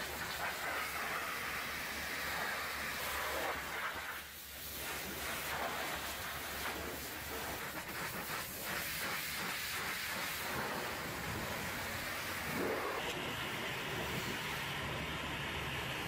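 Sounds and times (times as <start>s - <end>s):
pressure washer spraying metal: 0.0s - 15.8s.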